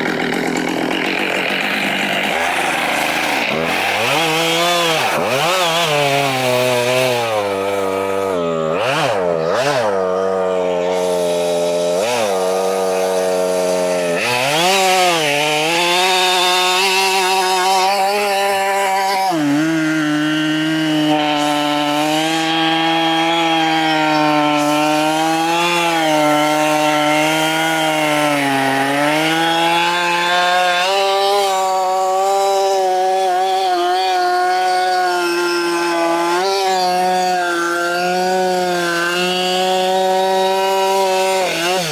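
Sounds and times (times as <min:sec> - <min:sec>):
chainsaw cutting wood: 0:00.0 - 0:41.9
chainsaw revving: 0:00.0 - 0:41.9.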